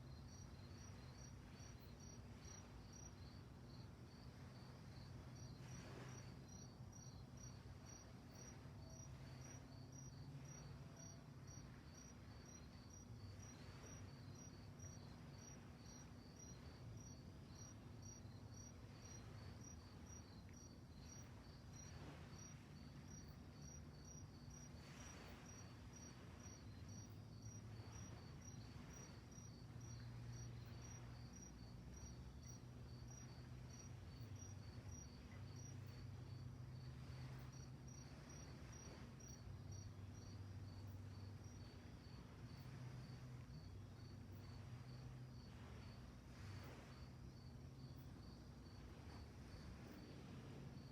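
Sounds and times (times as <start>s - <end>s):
crickets chirping: 0.0s - 50.9s
low steady rumble: 0.0s - 50.9s.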